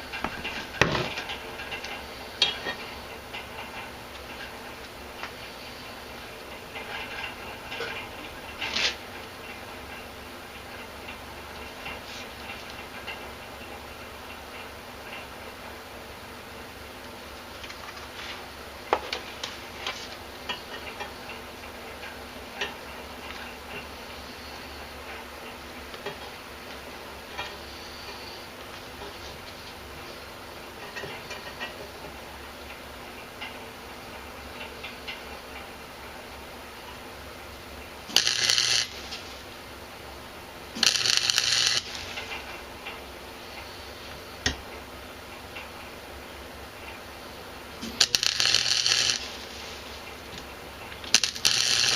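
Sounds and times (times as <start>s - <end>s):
arc welder crackling: 0.0s - 51.9s
steady low hum: 0.0s - 51.9s.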